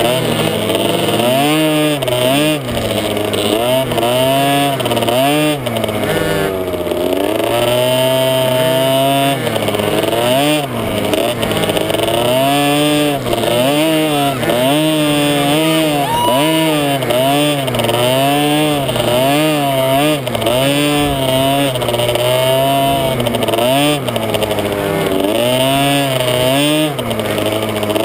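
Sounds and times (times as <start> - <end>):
two-stroke motorbike engine revving: 0.0 - 28.0.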